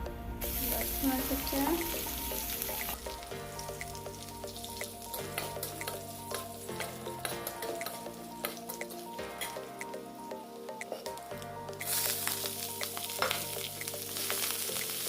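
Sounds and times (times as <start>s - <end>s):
garlic sizzling in hot oil: 0.4s - 9.6s, 11.8s - 15.0s.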